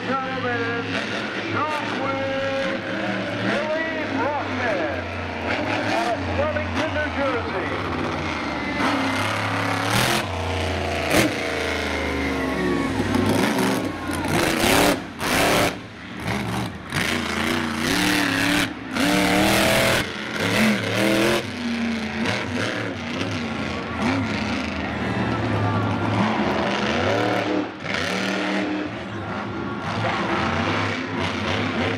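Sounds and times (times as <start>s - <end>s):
monster truck engine revving: 0.0s - 31.9s.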